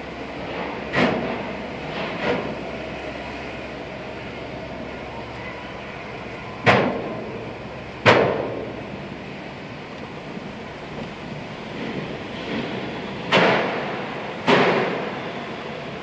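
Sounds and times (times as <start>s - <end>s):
road noise rumble: 0.0s - 16.0s.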